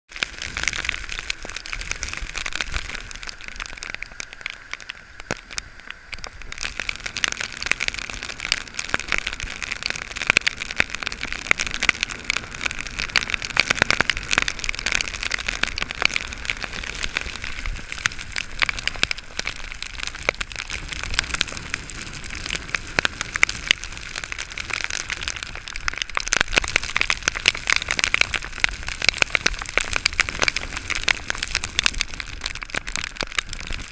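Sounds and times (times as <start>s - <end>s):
rain falling: 0.1s - 33.9s.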